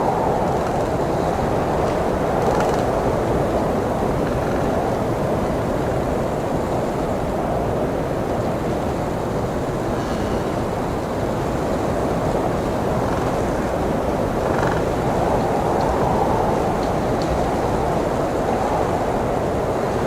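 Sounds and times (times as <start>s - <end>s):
blizzard wind blowing: 0.0s - 20.0s.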